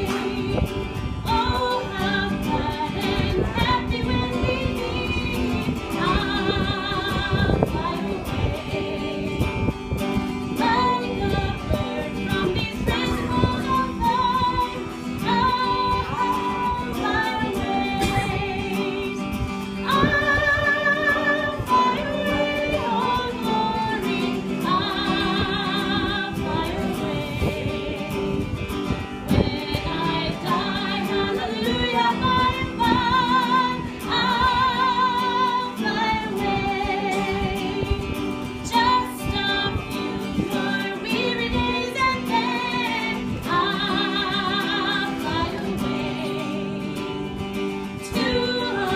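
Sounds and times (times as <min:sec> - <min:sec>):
guitar: 0:00.0 - 0:48.9
woman singing: 0:00.0 - 0:48.9.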